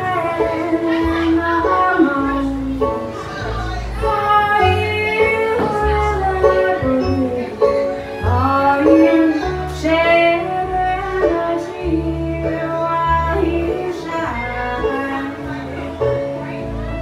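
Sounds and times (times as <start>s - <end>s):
woman singing: 0.0s - 15.8s
fiddle: 0.0s - 17.0s
picked banjo: 0.0s - 17.0s
upright bass: 0.0s - 17.0s.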